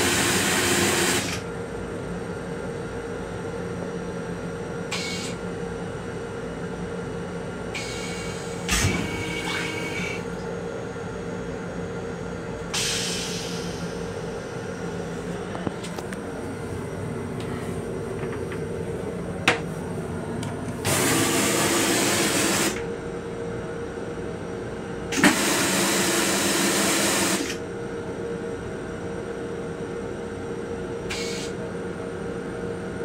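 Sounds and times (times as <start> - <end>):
railcar running hum: 0.0 - 33.0.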